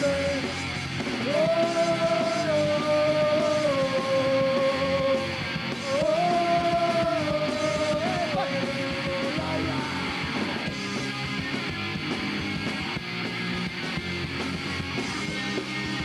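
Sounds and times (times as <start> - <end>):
drums: 0.0 - 16.0
electric guitar: 0.0 - 16.0.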